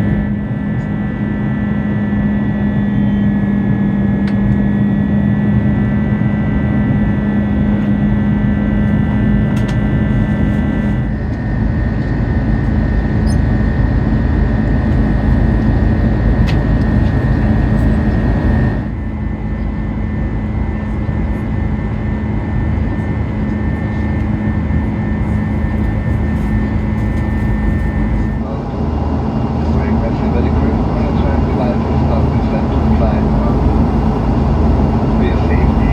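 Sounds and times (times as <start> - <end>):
high whine: 0.0 - 19.2, 24.0 - 35.9
jet engine and airflow in cabin: 0.0 - 35.9.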